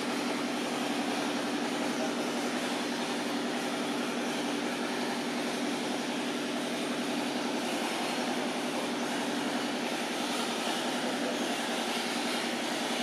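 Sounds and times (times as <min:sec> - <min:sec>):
machine drone with hiss: 0:00.0 - 0:13.0.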